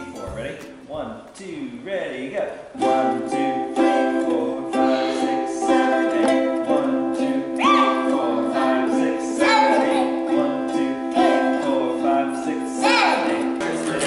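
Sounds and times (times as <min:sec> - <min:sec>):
ukulele strumming: 0:00.0 - 0:01.1, 0:02.4 - 0:14.0
acoustic guitar strumming: 0:00.0 - 0:01.2, 0:02.8 - 0:14.0.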